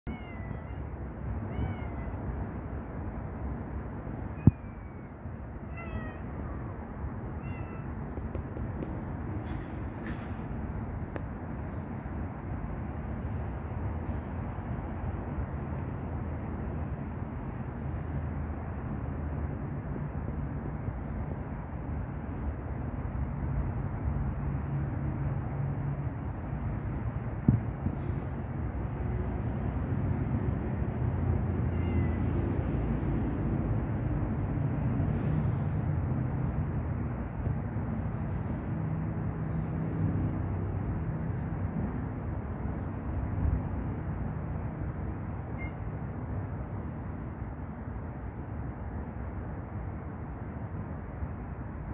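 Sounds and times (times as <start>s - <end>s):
low outdoor rumble: 0.1s - 51.9s.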